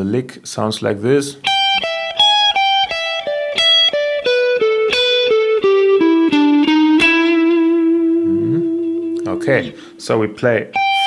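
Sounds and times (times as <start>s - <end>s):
electric guitar lick: 1.4s - 11.0s.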